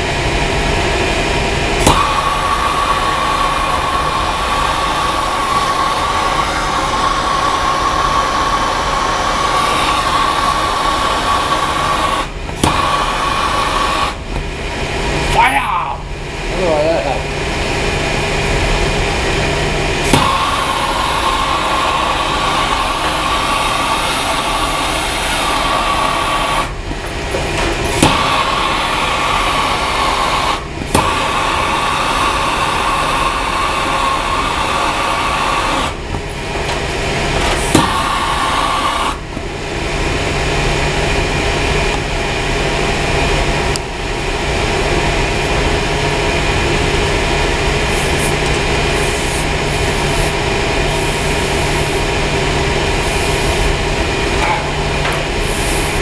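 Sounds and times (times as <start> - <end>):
boiler-room machinery running: 0.0 - 56.0
torch flame hissing: 1.6 - 17.2, 19.9 - 40.4, 45.8 - 56.0.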